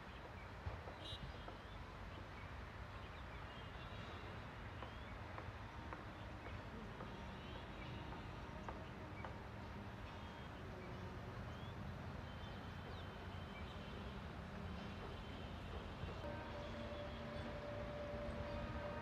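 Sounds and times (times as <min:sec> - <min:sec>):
distant train rumble: 0:00.0 - 0:19.0.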